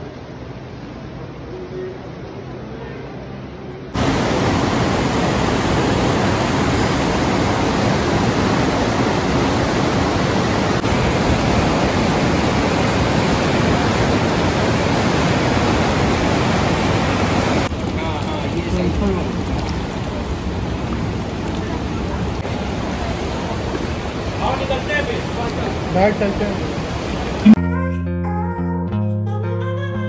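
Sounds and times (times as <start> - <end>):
river rushing over boulders: 0.0 - 27.6.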